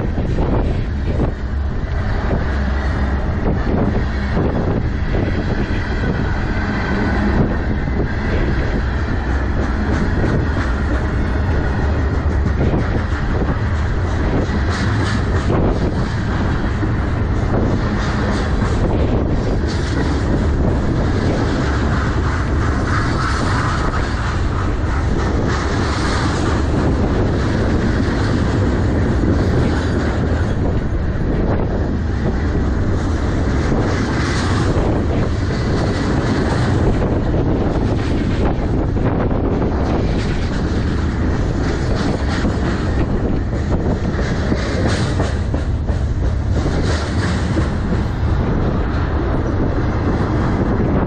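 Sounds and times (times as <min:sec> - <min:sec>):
train wheels rumbling on rail: 0:00.0 - 0:51.0
wheels clicking over rail joints: 0:00.0 - 0:51.0.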